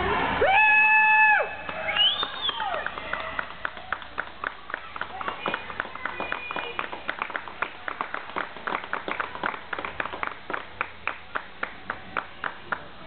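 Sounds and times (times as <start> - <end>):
hand clapping: 1.7 - 12.9.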